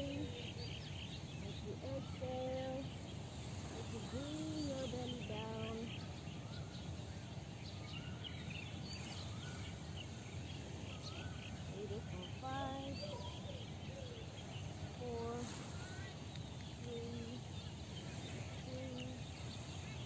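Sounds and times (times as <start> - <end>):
low background noise: 0.0 - 20.0
lower longer bird calls: 0.0 - 20.0
small birds chirping and whistling: 0.0 - 20.0.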